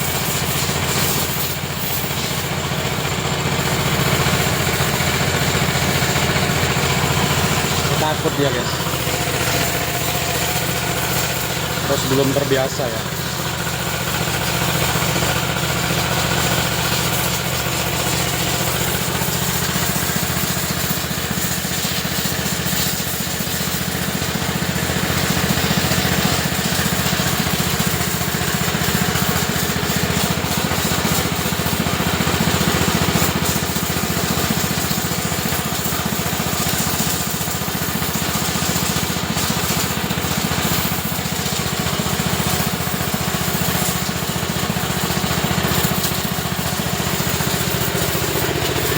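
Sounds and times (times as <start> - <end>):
pressure washer pump drone: 0.0 - 48.9.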